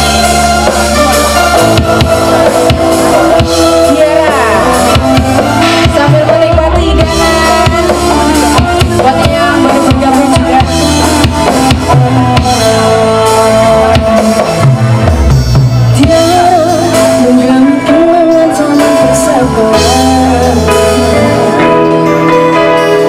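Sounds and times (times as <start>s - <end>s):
live band music with drums: 0.0s - 23.0s
woman singing: 1.8s - 14.8s, 15.9s - 22.8s.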